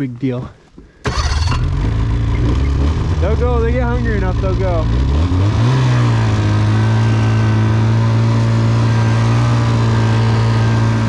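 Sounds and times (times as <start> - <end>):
small vehicle engine revving: 1.1 - 11.0.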